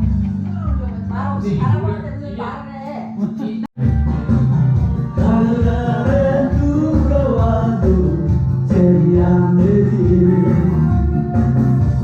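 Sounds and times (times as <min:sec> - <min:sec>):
steady bass beat: 0:00.0 - 0:02.2, 0:03.8 - 0:12.0
karaoke backing track: 0:00.0 - 0:12.0.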